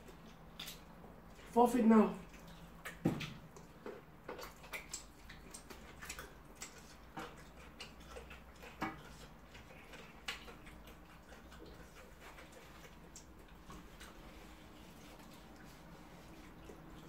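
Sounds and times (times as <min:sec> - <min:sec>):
mouths chewing: 0:00.0 - 0:17.0.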